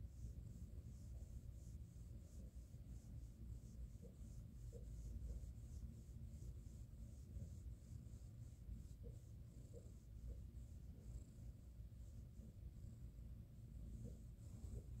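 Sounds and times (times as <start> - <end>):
fingers scratching kitten fur: 0.0 - 12.7
low steady rumble: 0.0 - 15.0.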